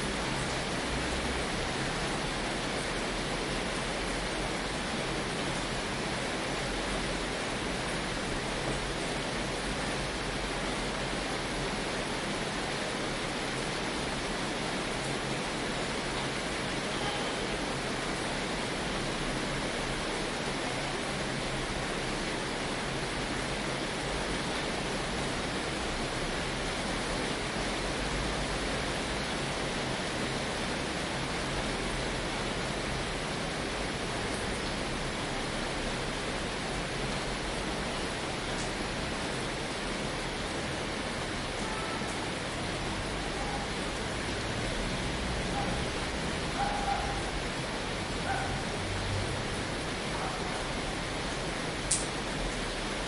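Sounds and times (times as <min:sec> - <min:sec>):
heavy rain on a tin roof: 0:00.0 - 0:53.0.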